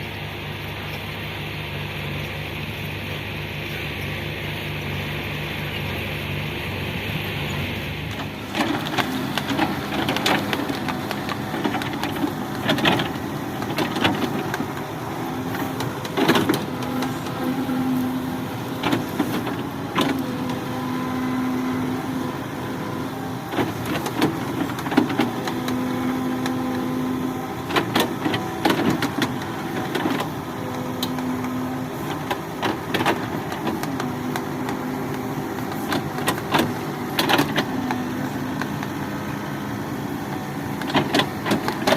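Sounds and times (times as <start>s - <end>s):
diesel engine droning: 0.0s - 41.9s.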